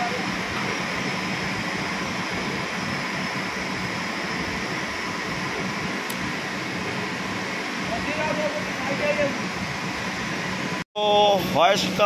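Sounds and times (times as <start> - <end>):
industrial machinery drone: 0.0 - 12.0.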